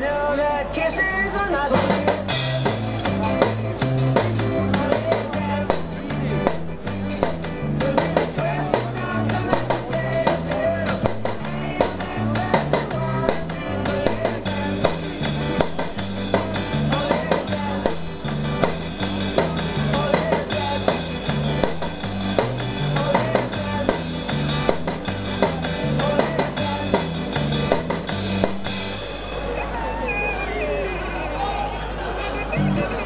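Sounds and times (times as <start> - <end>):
backing track music: 1.5 - 31.0
small drum kit and cymbals: 1.7 - 30.7.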